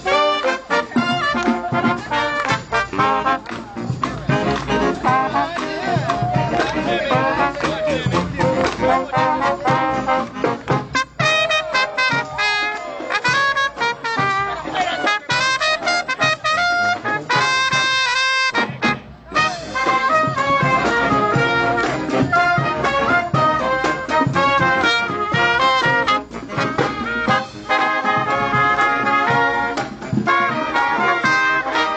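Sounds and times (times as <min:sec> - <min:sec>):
brass band playing: 0:00.0 - 0:31.9.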